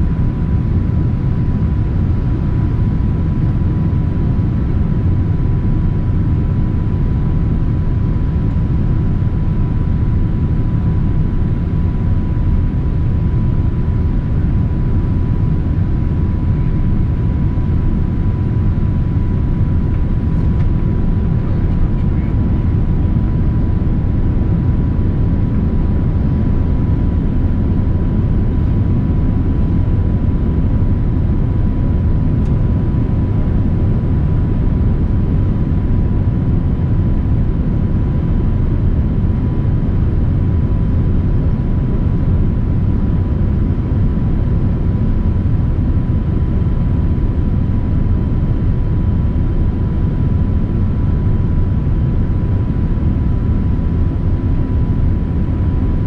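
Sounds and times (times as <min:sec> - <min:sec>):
airliner cabin rumble: 0:00.0 - 0:56.0
thin steady whine: 0:00.0 - 0:56.0.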